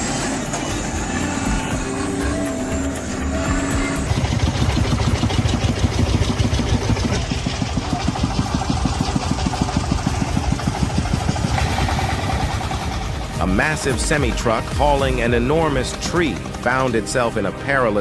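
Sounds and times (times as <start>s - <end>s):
truck engine running: 0.0s - 17.7s.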